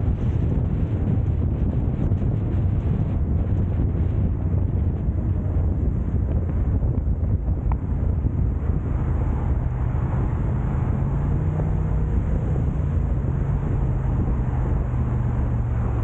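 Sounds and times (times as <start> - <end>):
car engine and road noise: 0.0 - 16.0
constant low hum: 0.0 - 16.0.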